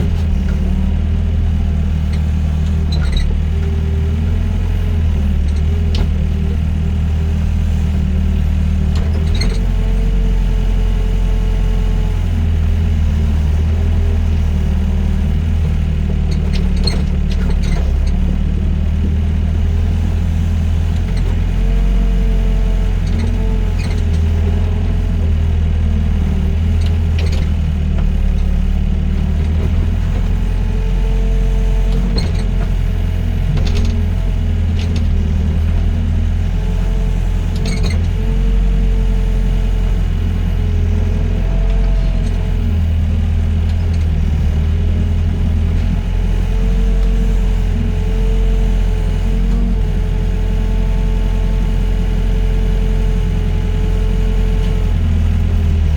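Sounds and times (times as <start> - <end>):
excavator diesel engine under load: 0.0 - 55.9.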